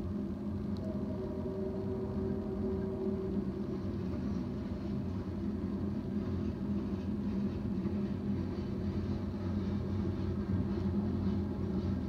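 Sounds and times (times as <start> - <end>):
low droning hum: 0.0 - 12.0
train passing rumble: 0.0 - 12.0.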